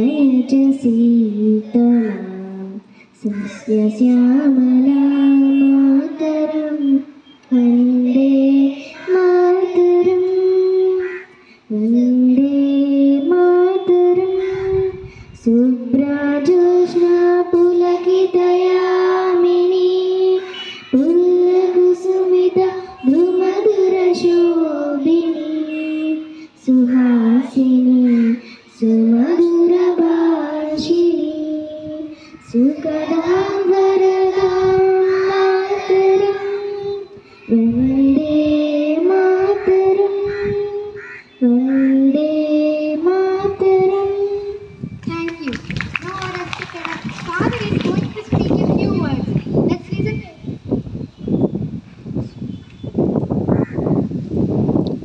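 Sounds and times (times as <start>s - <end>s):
children singing into microphone: 0.0s - 44.9s.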